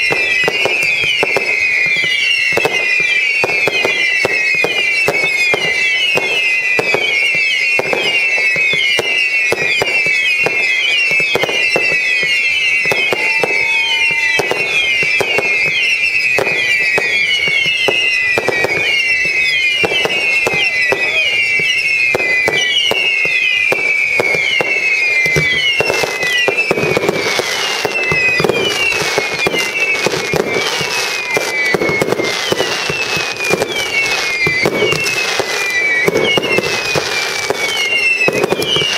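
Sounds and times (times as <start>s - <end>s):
firework bangs and cracks: 0.0s - 38.9s
firework crackling: 0.0s - 38.9s
whistling fireworks: 0.0s - 38.9s.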